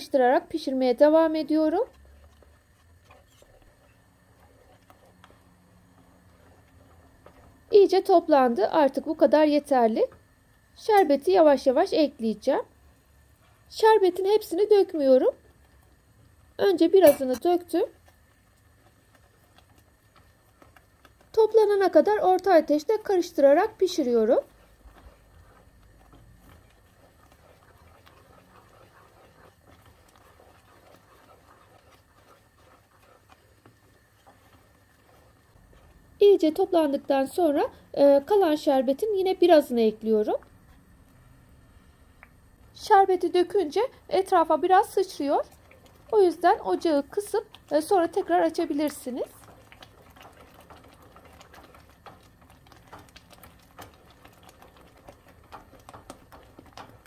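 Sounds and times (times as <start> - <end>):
wooden spoon stirring thick paste: 0.0 - 57.0.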